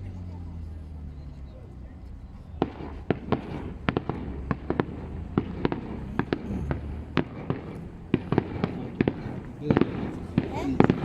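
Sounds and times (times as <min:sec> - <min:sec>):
steady low rumble: 0:00.0 - 0:11.0
distant firework bangs: 0:02.0 - 0:11.0.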